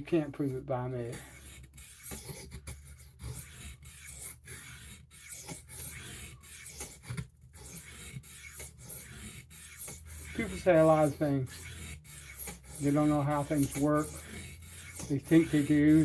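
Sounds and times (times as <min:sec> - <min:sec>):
knife blade scraping on oilstone: 0:00.4 - 0:16.0.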